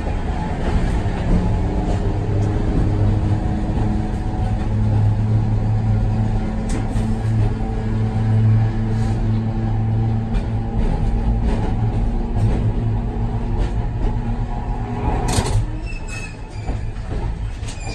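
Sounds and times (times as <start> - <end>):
steel wheels rumbling on rails: 0.0 - 17.9
streetcar motor hum: 0.0 - 17.9.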